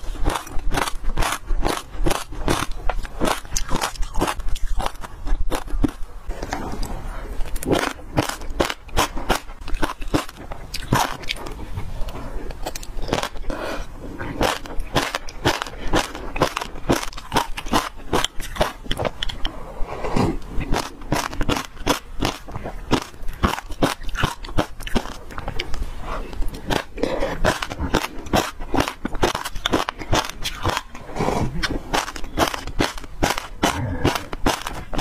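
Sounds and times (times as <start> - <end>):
seeds crunched and chewed: 0.0 - 19.5, 20.4 - 35.0.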